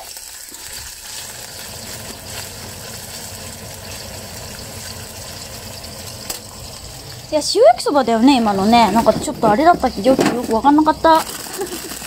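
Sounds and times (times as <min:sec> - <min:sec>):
kitchen ventilation fan: 0:00.0 - 0:12.0
oil sizzling in a frying pan: 0:00.0 - 0:12.0.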